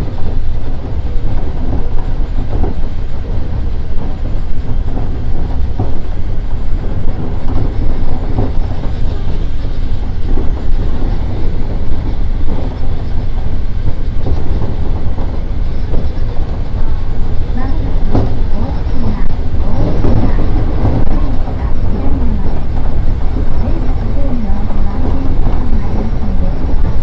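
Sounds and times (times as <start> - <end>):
track knocks and clatter: 0.0 - 27.0.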